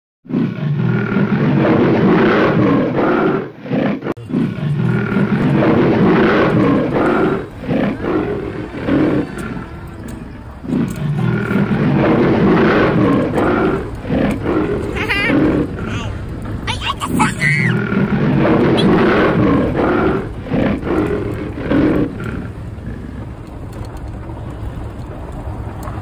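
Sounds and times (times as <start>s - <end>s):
lion roaring: 0.3s - 23.4s.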